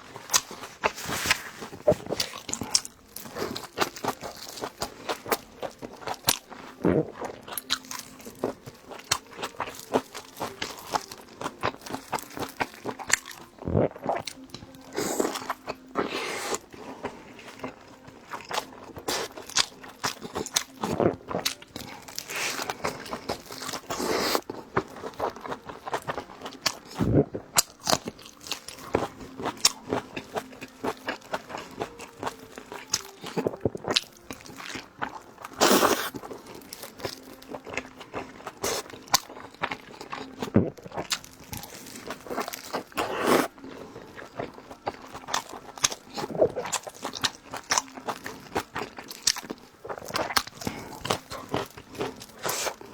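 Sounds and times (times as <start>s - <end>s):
person chewing dumplings: 0.0s - 52.9s.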